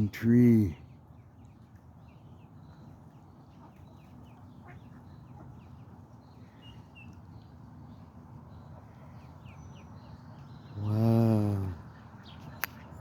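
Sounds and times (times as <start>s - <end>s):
high chirps of small birds: 0.0s - 13.0s.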